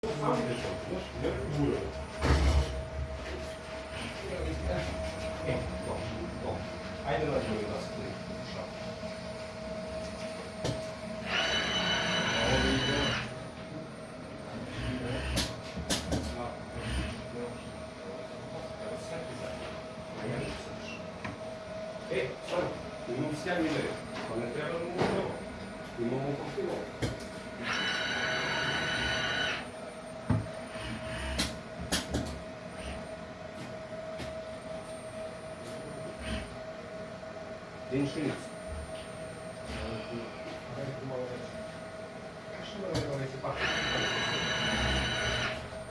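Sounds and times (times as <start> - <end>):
high motor whine: 0.0 - 15.6, 16.3 - 33.3, 37.9 - 45.9
machine hum: 0.0 - 45.9.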